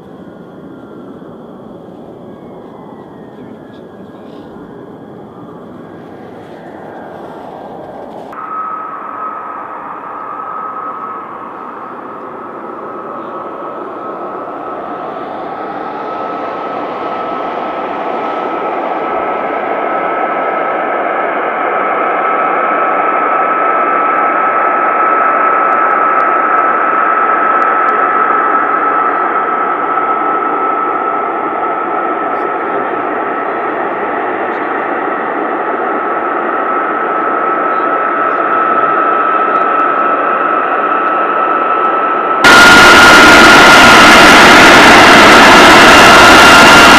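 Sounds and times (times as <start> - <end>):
jet engines rushing and whining: 0.0 - 46.9.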